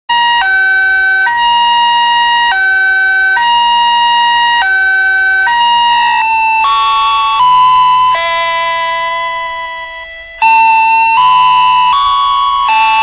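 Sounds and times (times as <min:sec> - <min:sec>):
level crossing two-tone alarm: 0:00.1 - 0:13.0.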